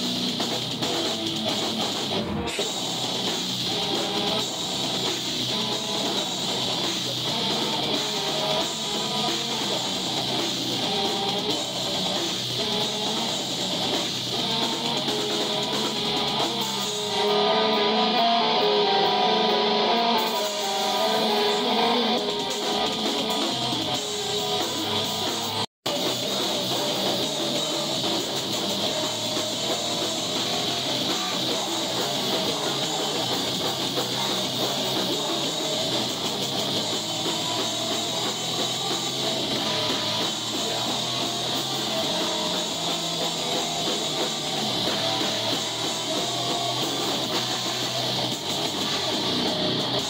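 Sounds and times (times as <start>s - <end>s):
drum kit: 0.0s - 50.0s
electric guitar: 0.0s - 50.0s.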